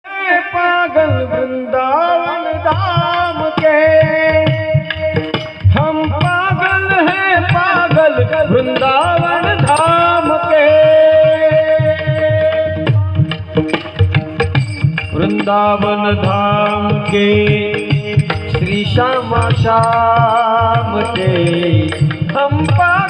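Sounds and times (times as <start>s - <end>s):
person singing devotional song: 0.1s - 23.0s
hand drum strokes: 3.1s - 23.0s.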